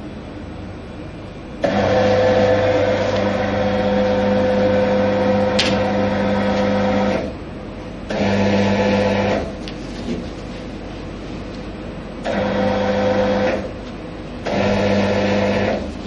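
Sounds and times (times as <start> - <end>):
conveyor belt motor humming: 0.0 - 16.0.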